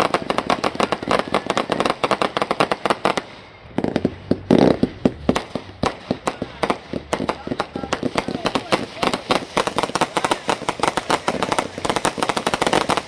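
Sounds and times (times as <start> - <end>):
fireworks cracking: 0.0 - 13.0.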